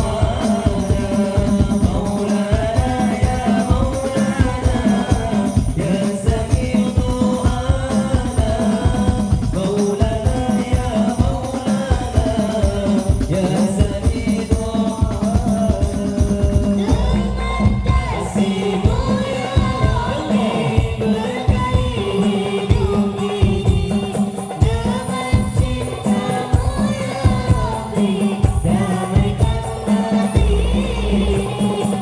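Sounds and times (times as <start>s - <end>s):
frame drums beating: 0.0s - 32.0s
jingling percussion: 0.0s - 32.0s.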